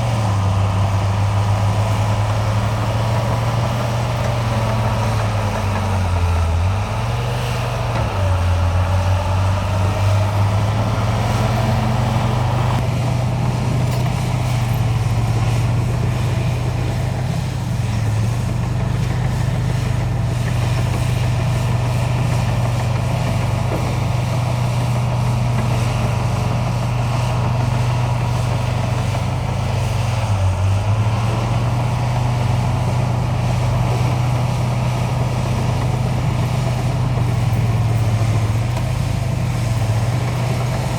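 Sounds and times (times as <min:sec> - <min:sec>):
construction machinery diesel engine: 0:00.0 - 0:40.9.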